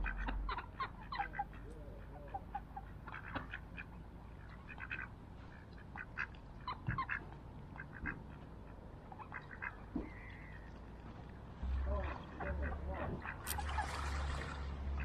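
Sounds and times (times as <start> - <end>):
ducks quacking: 0.0 - 10.6, 11.7 - 15.0.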